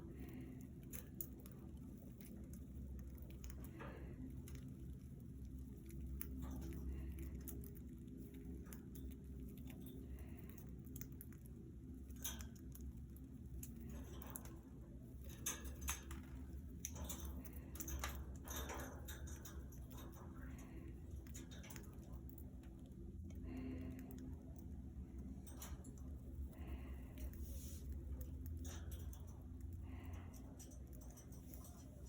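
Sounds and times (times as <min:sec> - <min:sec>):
birds pecking in wire cage: 0:00.0 - 0:32.0
low steady hum: 0:00.0 - 0:32.0.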